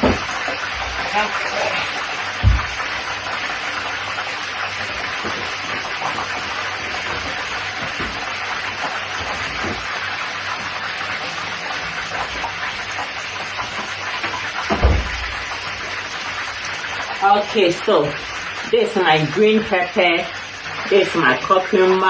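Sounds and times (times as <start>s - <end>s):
kitchen tap running: 0.0s - 22.0s.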